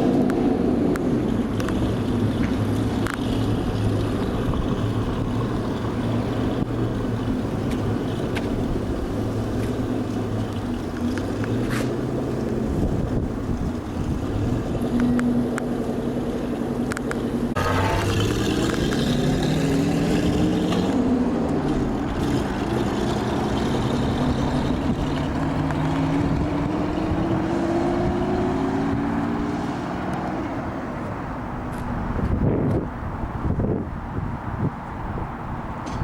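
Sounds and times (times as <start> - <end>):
car engine revving: 0.0 - 32.1.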